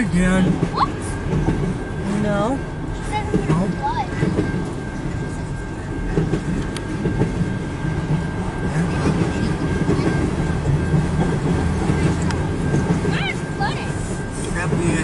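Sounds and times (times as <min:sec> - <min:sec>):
wheels clattering on rails: 0:00.0 - 0:05.4, 0:06.0 - 0:15.0
freight train rumbling past: 0:00.0 - 0:15.0.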